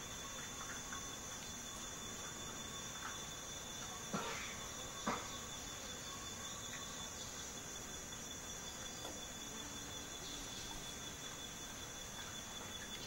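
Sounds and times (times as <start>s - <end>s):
insect chorus: 0.0s - 13.0s
thin steady whine: 0.0s - 13.0s.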